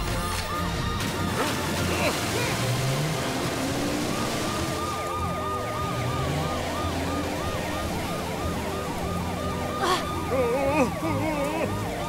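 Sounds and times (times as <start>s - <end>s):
siren yelping: 0.4s - 12.0s.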